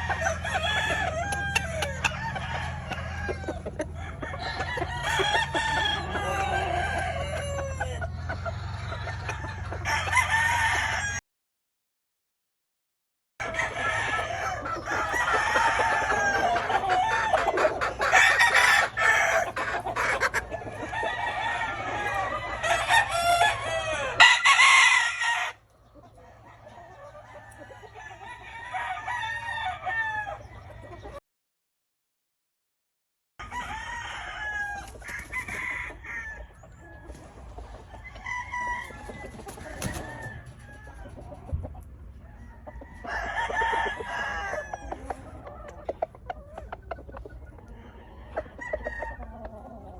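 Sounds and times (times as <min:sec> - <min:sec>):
chickens clucking: 0:00.0 - 0:11.2, 0:13.4 - 0:31.2, 0:33.4 - 0:49.9
roosters crowing: 0:00.0 - 0:11.2, 0:13.4 - 0:31.2, 0:33.4 - 0:49.9.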